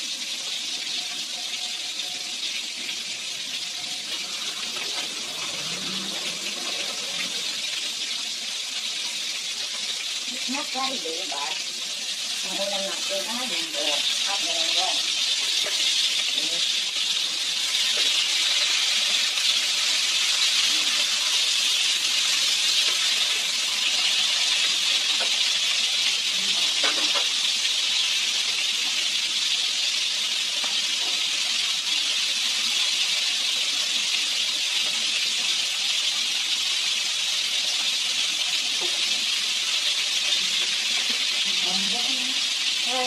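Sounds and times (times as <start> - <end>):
soup boiling hard: 2.3 - 43.0.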